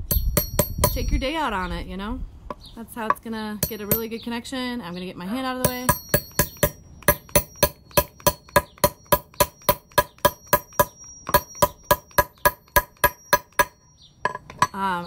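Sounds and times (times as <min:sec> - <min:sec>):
hammer striking metal tool: 0:00.0 - 0:01.2, 0:02.5 - 0:04.1, 0:05.6 - 0:14.9.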